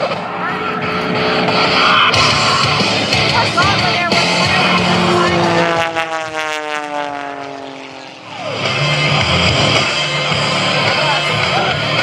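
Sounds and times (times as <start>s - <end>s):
propeller plane passing by: 0.0s - 12.0s
rock background music: 0.0s - 12.0s.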